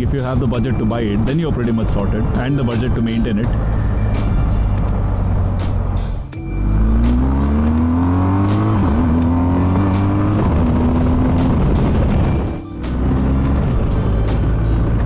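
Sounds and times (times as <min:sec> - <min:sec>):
background music: 0:00.0 - 0:15.0
motorcycle engine accelerating: 0:01.2 - 0:15.0.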